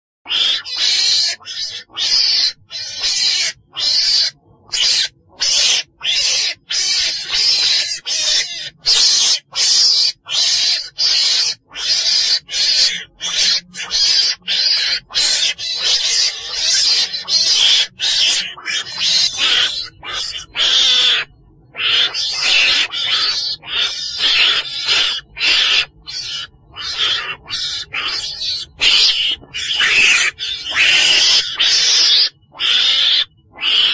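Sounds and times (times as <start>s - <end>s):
high-pitched animal calls: 0.3s - 33.9s.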